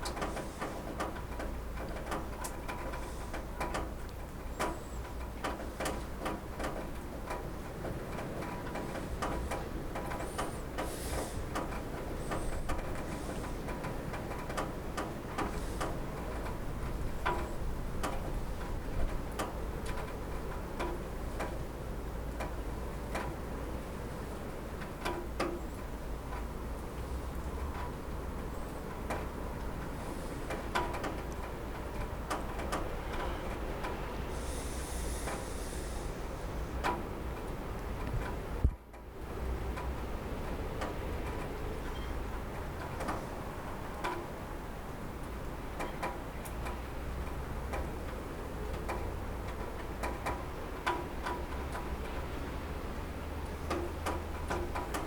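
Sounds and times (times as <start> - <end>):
raindrops ticking on a roof: 0.0 - 55.0.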